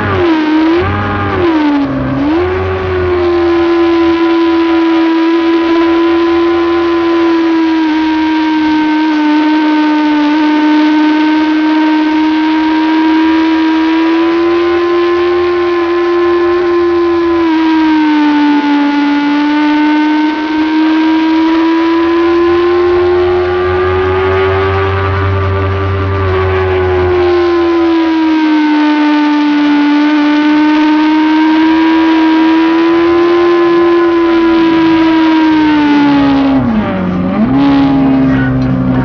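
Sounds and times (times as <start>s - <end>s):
motorcycle engine at high revs: 0.0s - 39.0s.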